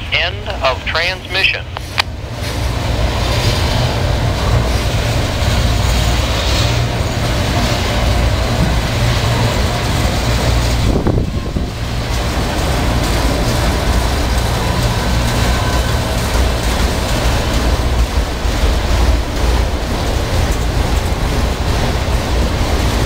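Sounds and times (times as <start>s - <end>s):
freight train rolling past: 0.0s - 23.0s
wind buffeting microphone: 1.7s - 23.0s.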